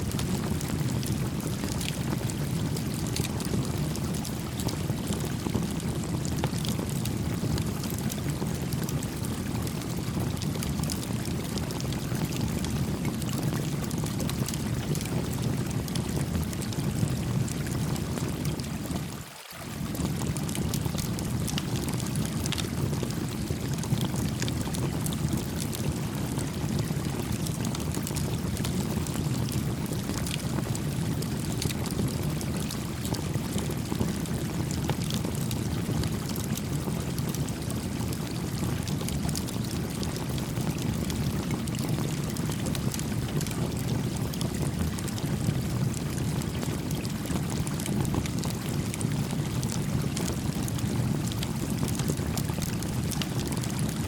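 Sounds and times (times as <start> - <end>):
campfire popping and crackling: 0.0 - 54.0.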